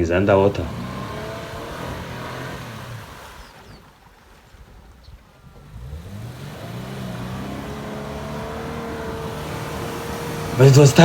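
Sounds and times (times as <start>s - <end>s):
car engine revving: 0.0s - 4.1s, 5.2s - 11.0s.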